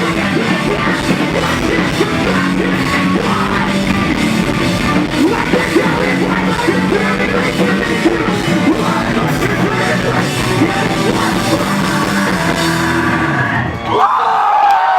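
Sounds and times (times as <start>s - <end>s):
drum kit: 0.0s - 13.6s
distorted guitars and bass: 0.0s - 13.9s
rock vocals: 0.0s - 14.0s.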